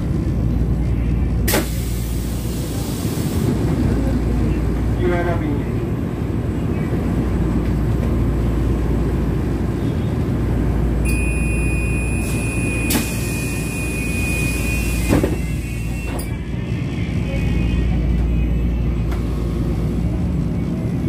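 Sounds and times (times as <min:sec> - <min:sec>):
train car low hum: 0:00.0 - 0:21.0.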